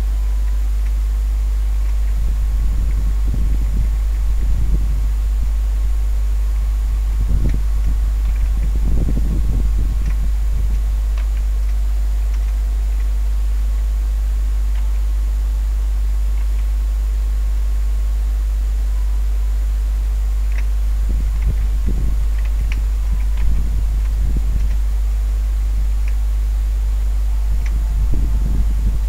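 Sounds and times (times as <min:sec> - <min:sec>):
low rumbling: 0:00.0 - 0:29.0
steady low hum: 0:00.0 - 0:29.0.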